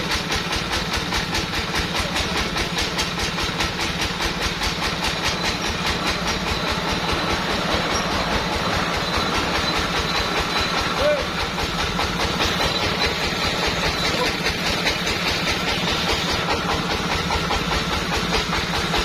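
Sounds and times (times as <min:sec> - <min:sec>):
fast regular pulsing: 0:00.0 - 0:19.0
sawmill machinery running: 0:00.0 - 0:19.0.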